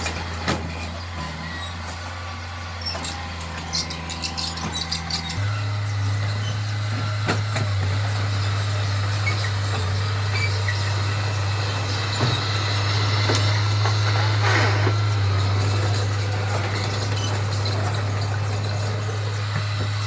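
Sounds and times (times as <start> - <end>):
diesel machine engine drone: 0.0 - 20.0.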